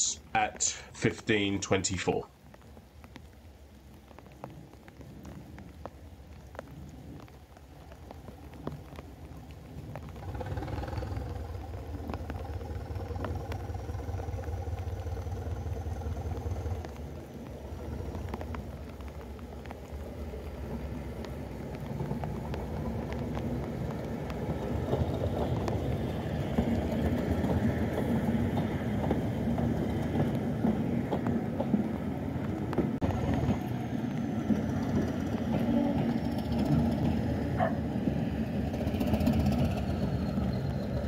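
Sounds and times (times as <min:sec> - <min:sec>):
train wheels running: 0:05.3 - 0:41.0
diesel train engine throbbing: 0:08.0 - 0:41.0.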